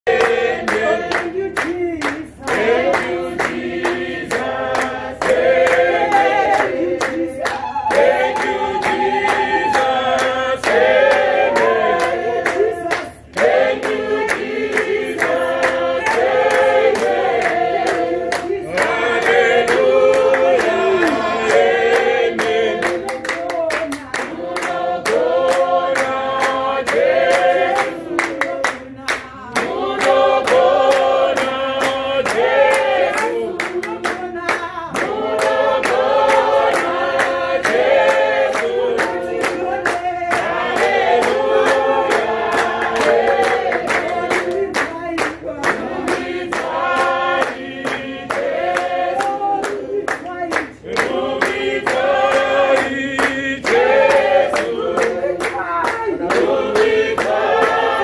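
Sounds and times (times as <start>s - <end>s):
congregation singing: 0.0s - 58.0s
hands clapping along: 0.0s - 58.0s.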